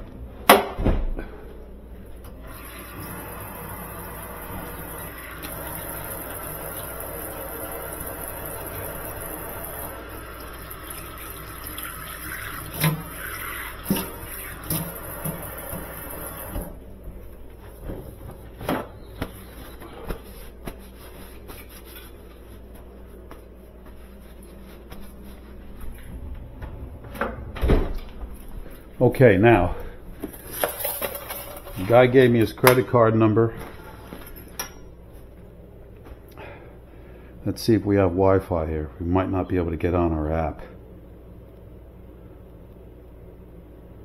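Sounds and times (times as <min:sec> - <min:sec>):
refrigerator condenser fan running: 0:00.0 - 0:44.0.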